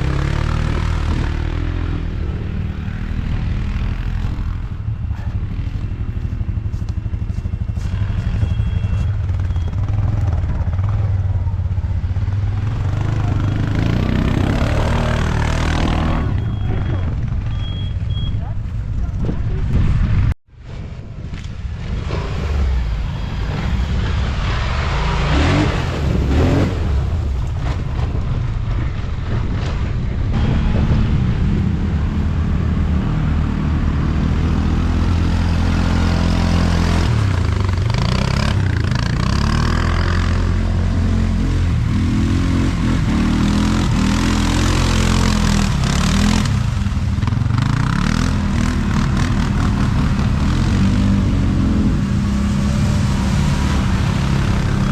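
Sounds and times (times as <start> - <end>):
quad bike engine revving: 0.0 - 6.8, 7.6 - 18.1, 23.6 - 27.1, 30.4 - 54.9.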